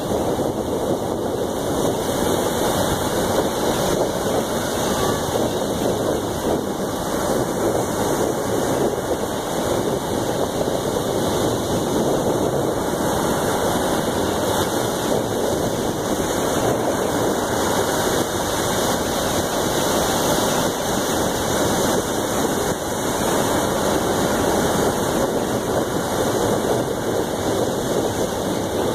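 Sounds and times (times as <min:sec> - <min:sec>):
surf on stony beach: 0:00.0 - 0:28.9.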